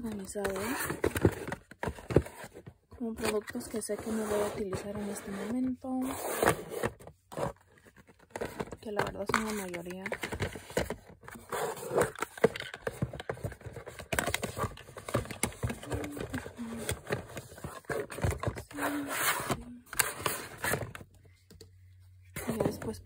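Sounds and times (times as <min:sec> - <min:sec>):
cardboard boxes scraping and tapping: 0:00.0 - 0:21.0.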